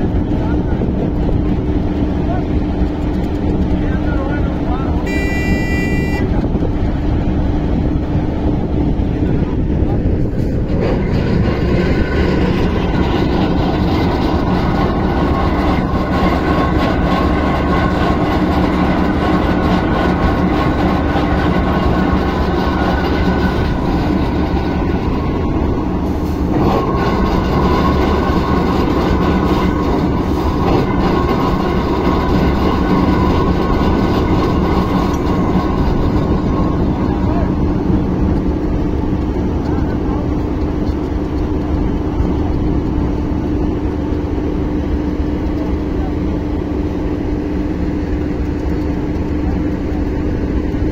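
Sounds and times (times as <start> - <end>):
diesel crane engine running: 0.0 - 50.9.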